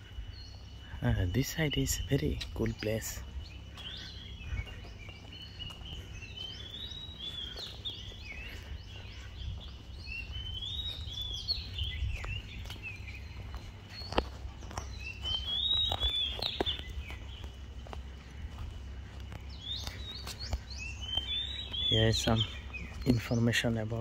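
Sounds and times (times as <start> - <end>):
birds chirping: 0.0 - 24.0
steady low rumble: 0.0 - 24.0.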